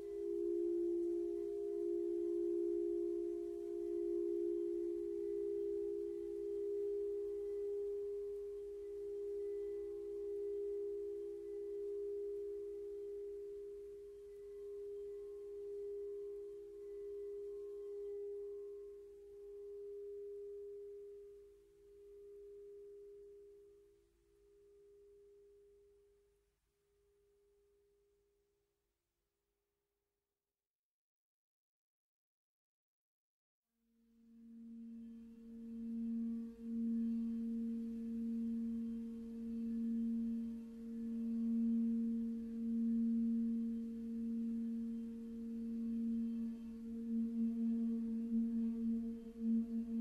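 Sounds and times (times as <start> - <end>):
crystal singing bowls: 0.0 - 25.8, 34.0 - 50.0.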